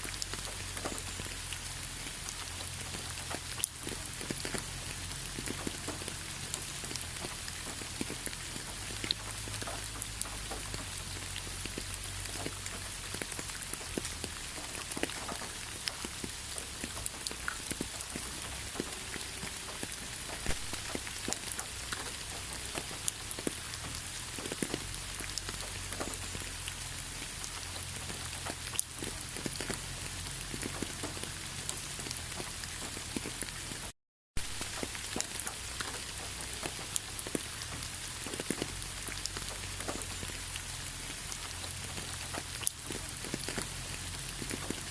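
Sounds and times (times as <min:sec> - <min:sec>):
steady rain hissing: 0:00.0 - 0:44.9.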